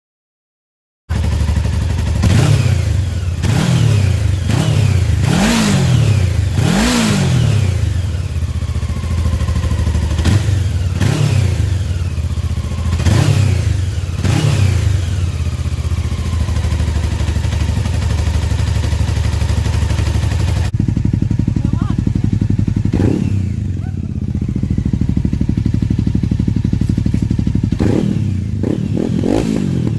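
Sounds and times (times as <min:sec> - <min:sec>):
motorcycle engine revving and idling: 0:01.1 - 0:29.9.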